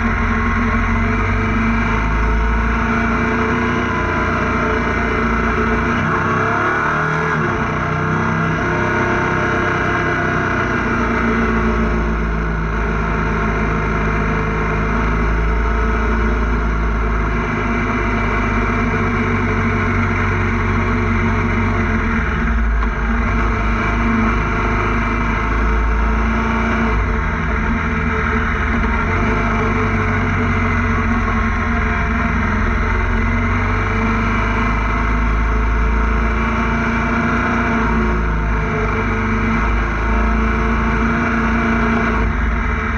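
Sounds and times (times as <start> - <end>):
motorcycle engine cruising: 0.0 - 42.9
wind and road rush: 0.0 - 42.9.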